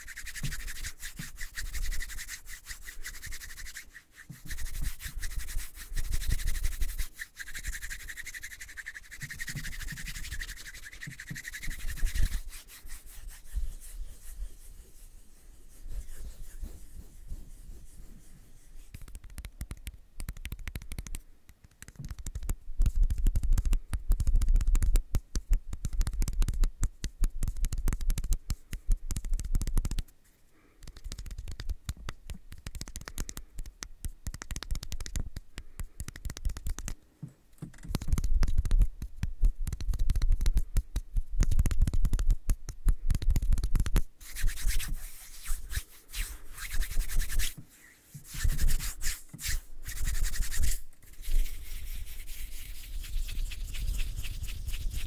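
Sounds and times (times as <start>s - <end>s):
scratchy rubbing and brushing: 0.0s - 37.0s, 37.6s - 55.0s.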